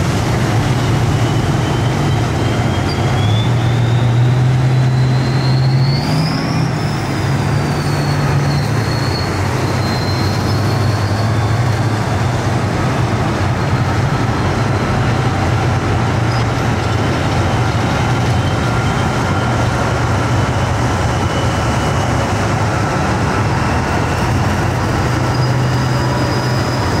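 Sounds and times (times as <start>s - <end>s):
heavy engines droning: 0.0s - 27.0s
tracks rumbling on road: 0.0s - 27.0s.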